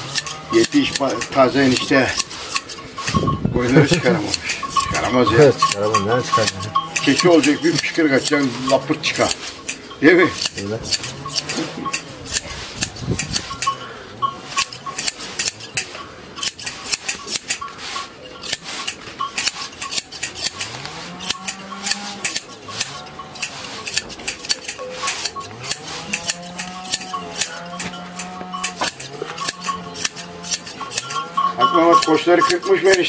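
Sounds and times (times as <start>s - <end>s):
shears snipping fleece: 0.0s - 13.8s, 14.4s - 33.0s.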